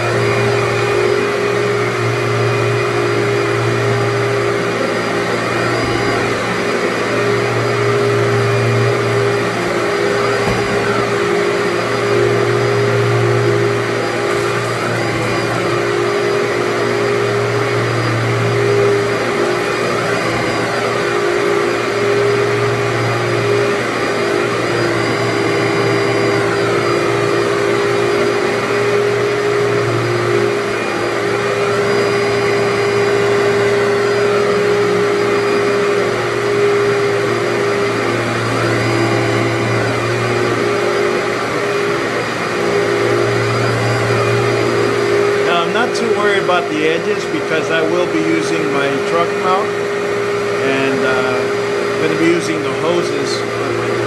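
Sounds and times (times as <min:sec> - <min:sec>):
vacuum cleaner running over carpet: 0:00.0 - 0:54.0.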